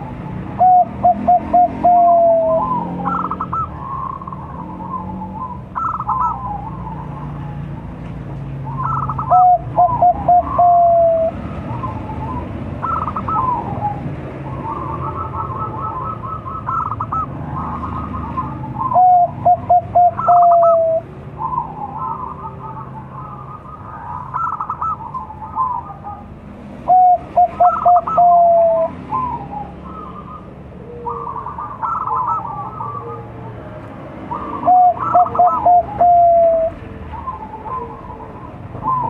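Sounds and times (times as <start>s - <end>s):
dove cooing: 0.0s - 7.8s, 8.5s - 39.0s
birds chirping: 0.0s - 39.0s.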